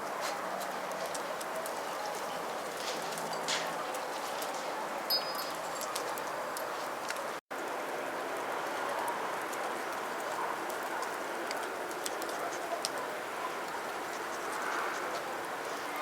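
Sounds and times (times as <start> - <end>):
bonfire crackling and popping: 0.0 - 15.7.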